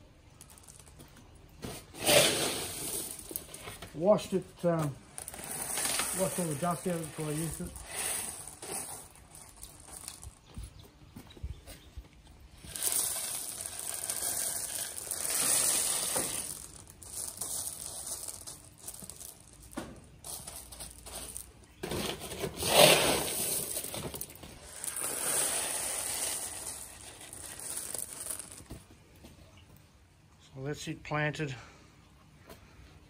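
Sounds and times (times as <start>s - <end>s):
clay pebbles rattling and trickling: 0.0s - 11.6s, 12.2s - 29.6s.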